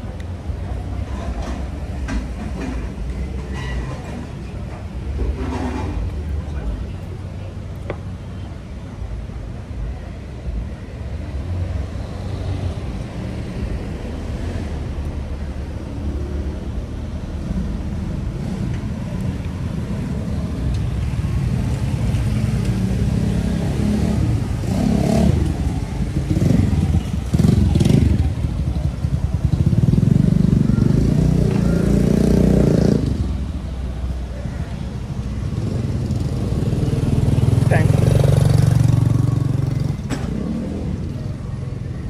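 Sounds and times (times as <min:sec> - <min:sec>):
cars and scooters passing: 0:00.0 - 0:42.0.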